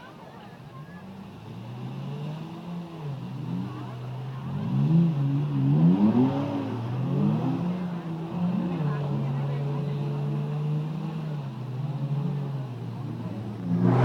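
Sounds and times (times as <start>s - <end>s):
drift car engine revving: 1.4s - 14.0s.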